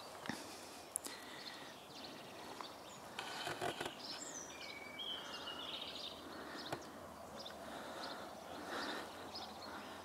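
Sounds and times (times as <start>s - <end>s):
faint outdoor background noise: 0.0s - 10.0s
birds whistling: 1.0s - 10.0s.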